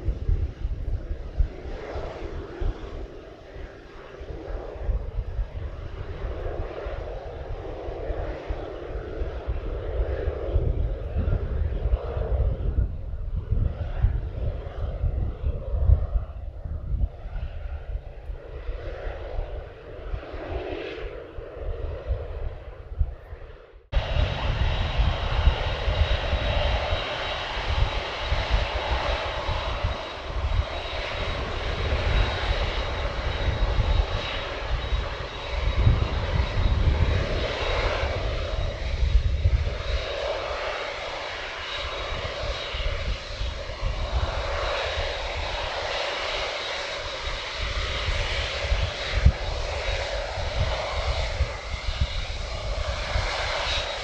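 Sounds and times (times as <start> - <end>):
jet engines rumbling: 0.0 - 54.0.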